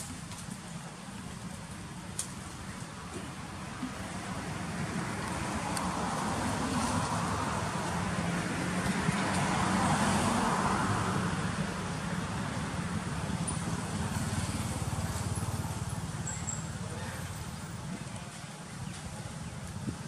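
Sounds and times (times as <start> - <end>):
road traffic rumble and hiss: 0.0 - 20.0.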